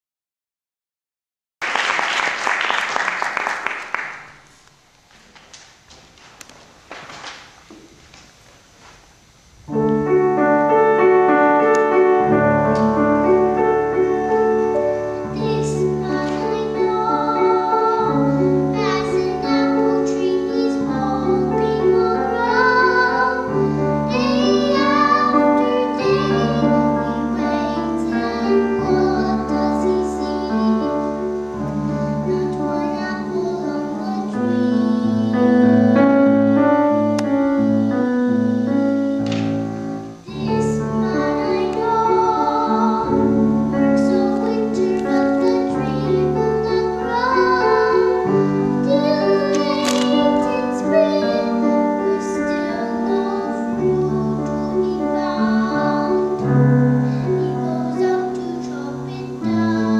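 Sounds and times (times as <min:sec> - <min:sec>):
grand piano playing: 0:09.6 - 0:59.9
girl singing: 0:11.6 - 0:59.9.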